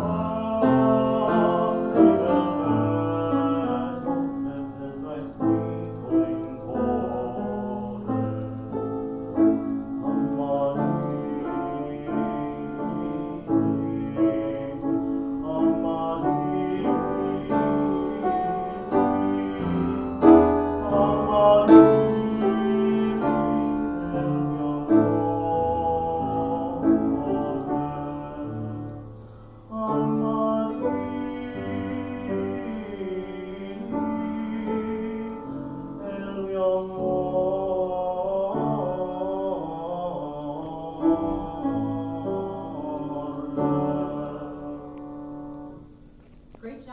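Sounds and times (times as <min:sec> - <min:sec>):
man singing with vibrato: 0:00.0 - 0:46.0
upright piano accompaniment: 0:00.0 - 0:46.9.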